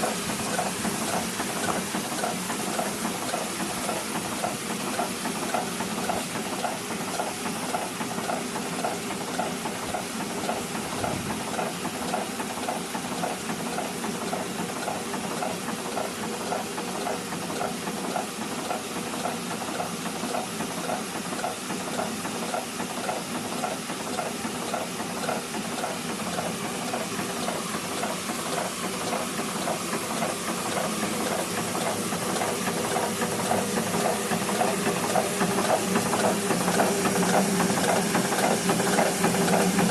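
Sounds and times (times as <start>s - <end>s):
hot air engine clacking: 0.0s - 39.9s.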